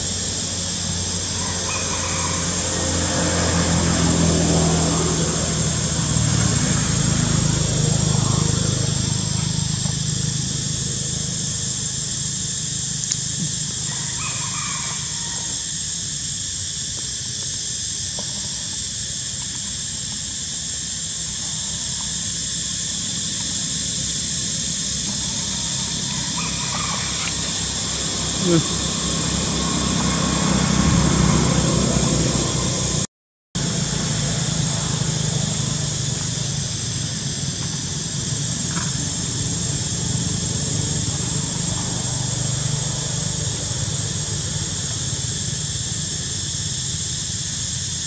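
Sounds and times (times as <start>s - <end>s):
high-pitched whine: 0.0s - 48.0s
low engine drone: 0.0s - 48.0s.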